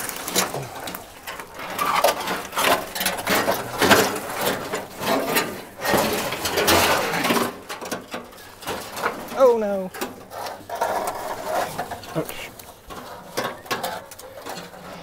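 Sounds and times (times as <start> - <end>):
sheet metal scraping and creaking: 0.0 - 15.0.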